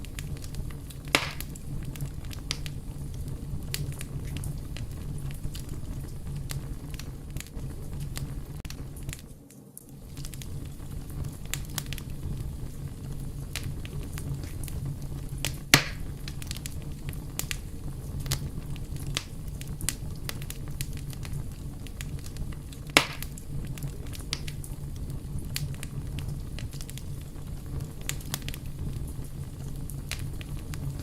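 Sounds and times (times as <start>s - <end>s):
loud pops from fire: 0.0s - 31.0s
wood fire crackling: 0.0s - 31.0s.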